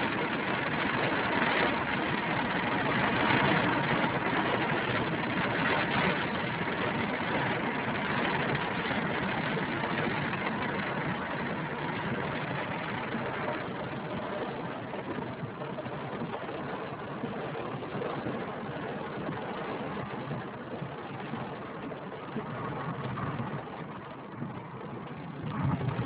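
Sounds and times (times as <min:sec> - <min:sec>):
car engine: 0:00.0 - 0:26.0
rain hissing on car: 0:00.0 - 0:26.0
tyres on wet road: 0:00.0 - 0:26.0.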